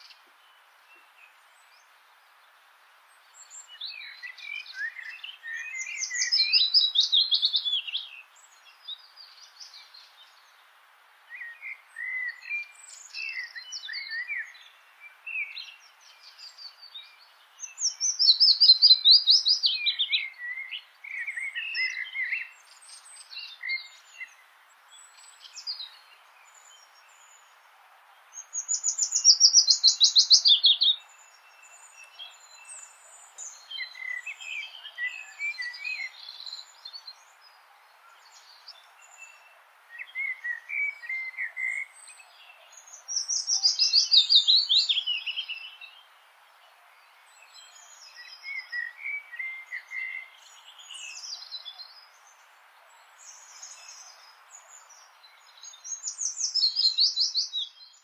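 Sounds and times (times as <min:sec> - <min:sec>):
soft steady hiss: 0:00.0 - 0:58.0
songbirds singing: 0:00.0 - 0:58.0.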